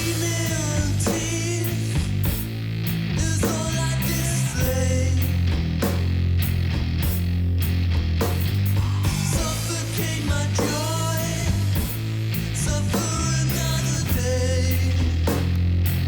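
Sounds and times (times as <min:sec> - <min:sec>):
distorted electric guitar: 0:00.0 - 0:16.0
heavy bass: 0:00.0 - 0:16.0.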